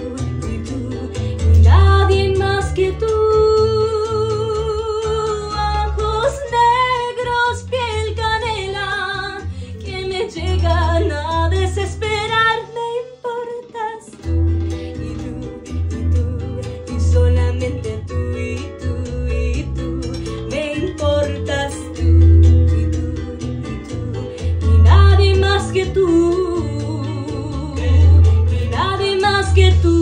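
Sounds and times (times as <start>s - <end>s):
bolero accompaniment of guitar and bass: 0.0s - 30.0s
woman singing with vibrato: 0.0s - 30.0s.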